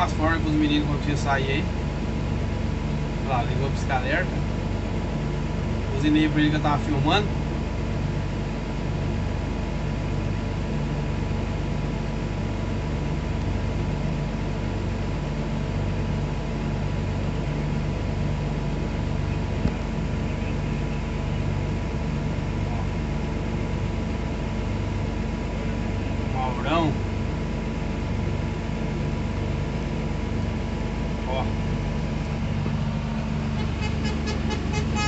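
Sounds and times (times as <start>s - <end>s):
truck diesel engine running: 0.0s - 35.0s.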